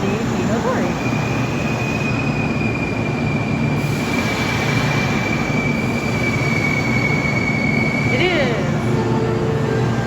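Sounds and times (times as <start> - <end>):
train cars rumbling: 0.0 - 10.0
train wheels squealing: 0.0 - 10.0.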